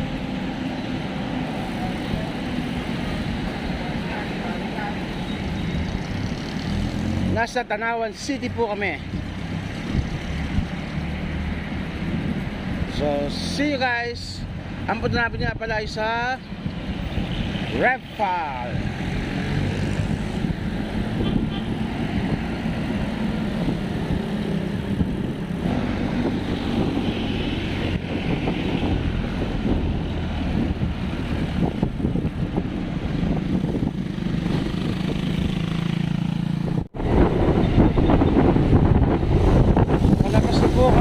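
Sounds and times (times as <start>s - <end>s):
road noise: 0.0s - 41.0s.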